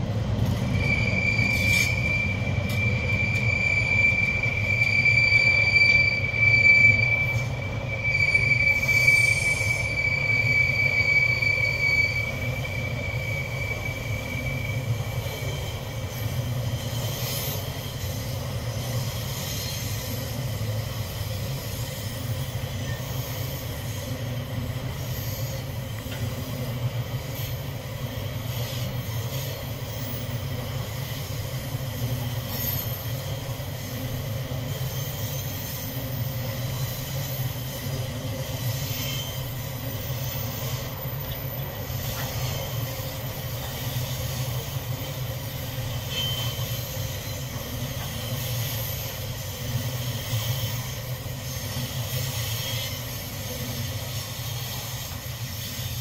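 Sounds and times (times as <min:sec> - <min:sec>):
rumble of wheels on track: 0:00.0 - 0:56.0
train wheels squealing on rail: 0:00.0 - 0:56.0.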